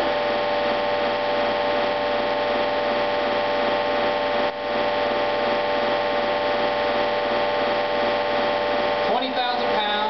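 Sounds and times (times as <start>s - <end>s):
hydraulic pump humming: 0.0s - 10.0s.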